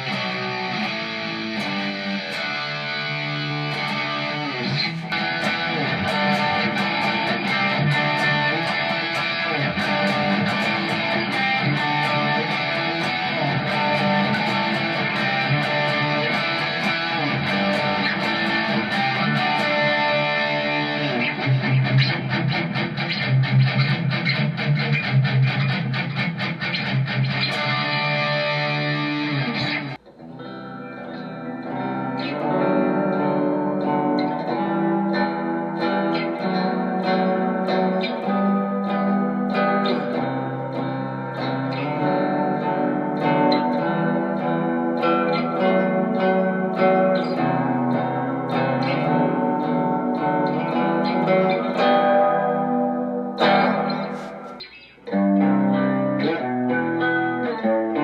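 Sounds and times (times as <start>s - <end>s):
electric guitar with effects: 0.0s - 58.0s.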